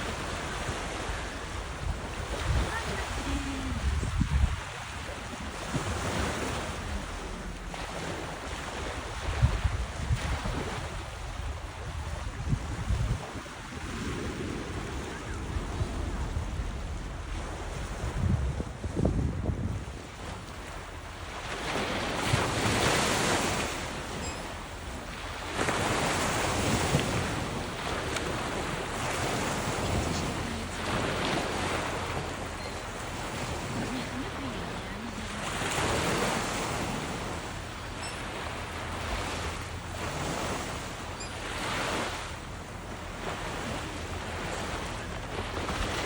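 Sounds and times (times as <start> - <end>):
ocean surf washing onto shore: 0.0 - 46.0
waves breaking: 0.0 - 46.0
wind on microphone: 0.0 - 46.0.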